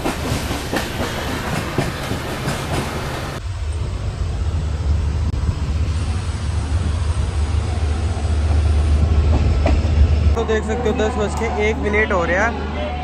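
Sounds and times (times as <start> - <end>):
train rumbling at speed: 0.0 - 11.9.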